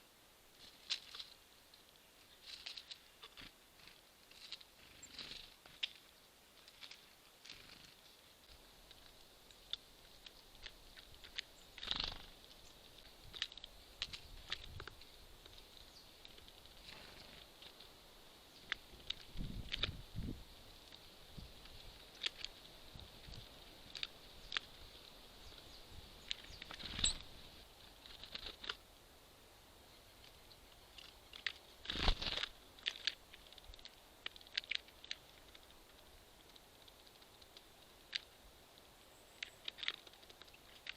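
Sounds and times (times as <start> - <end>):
birds pecking and hopping: 0.5 - 40.9.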